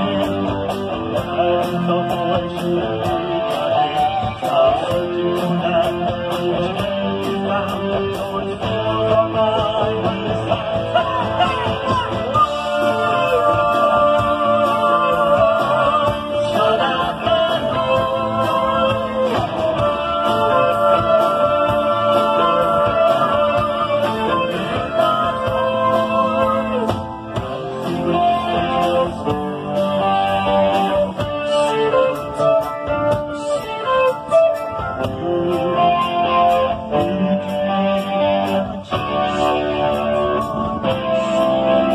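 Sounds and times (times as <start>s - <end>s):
drum kit with cymbal beat: 0.0s - 41.9s
electric guitars: 0.0s - 41.9s.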